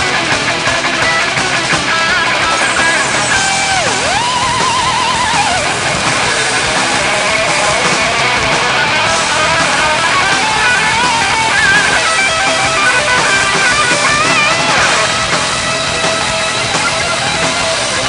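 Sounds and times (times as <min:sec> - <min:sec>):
distorted electric guitar lead: 0:00.0 - 0:18.0
rock band backing: 0:00.0 - 0:18.0.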